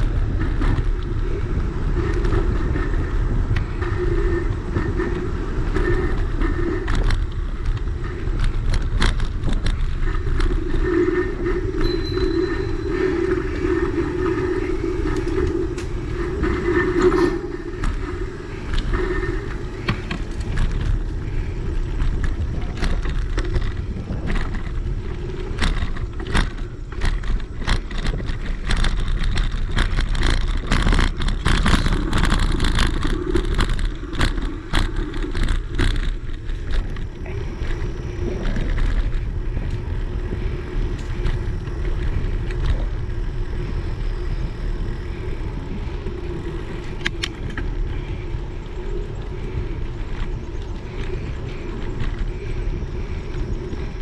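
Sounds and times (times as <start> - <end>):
bicycle tyre rumble: 0.0 - 54.0
sharp clicks and rattles: 0.0 - 54.0
wind noise on microphone: 0.0 - 54.0.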